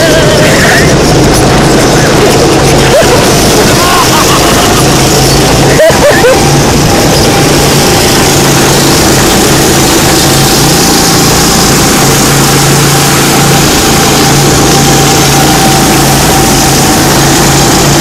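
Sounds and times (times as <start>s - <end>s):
small engine droning: 0.0s - 18.0s
wind and road noise: 0.0s - 18.0s.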